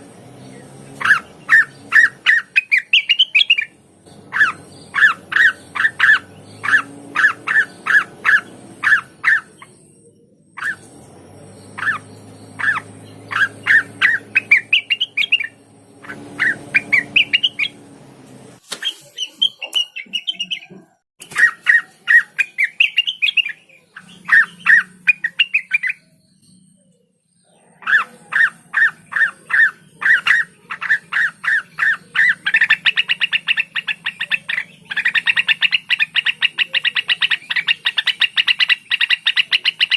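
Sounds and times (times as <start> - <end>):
bird singing sharp notes: 0.0 - 18.0, 18.6 - 39.9.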